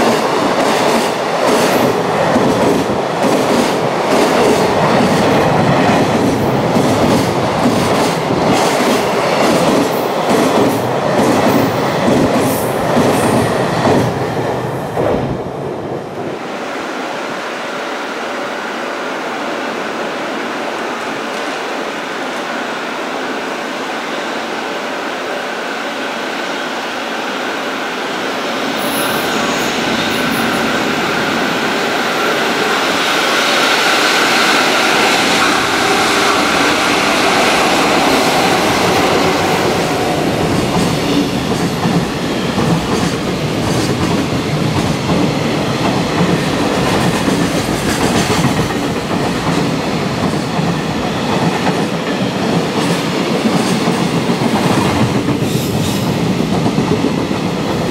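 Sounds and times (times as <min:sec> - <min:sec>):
electric locomotive passing: 0:00.0 - 0:57.9.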